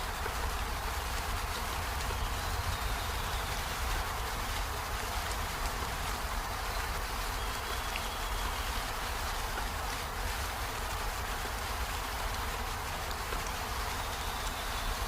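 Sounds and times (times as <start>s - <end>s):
rain on flowers and leaves: 0.0s - 15.0s.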